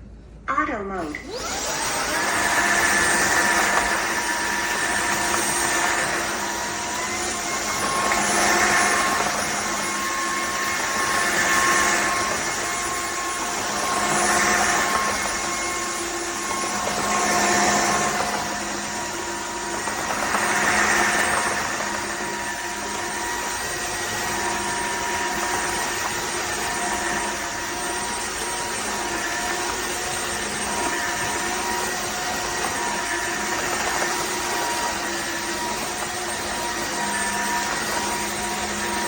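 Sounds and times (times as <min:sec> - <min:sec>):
vacuum mop motor whine: 0:01.0 - 0:39.0.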